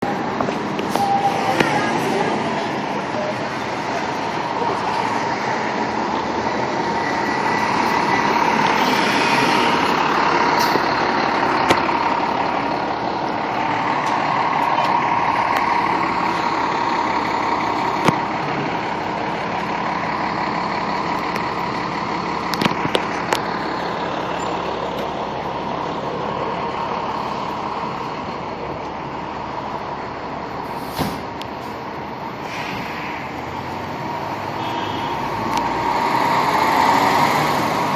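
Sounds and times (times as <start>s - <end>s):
fire engine diesel engine running: 0.0s - 37.9s.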